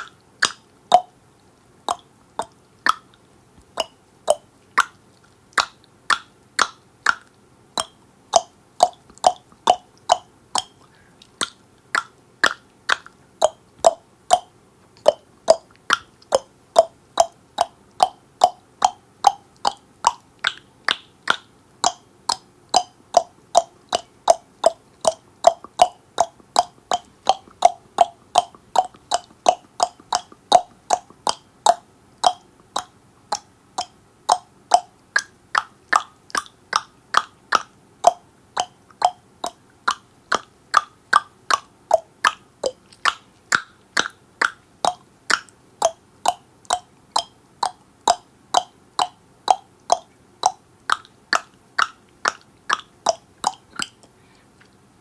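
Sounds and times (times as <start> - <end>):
tongue clicks: 0.0 - 54.8.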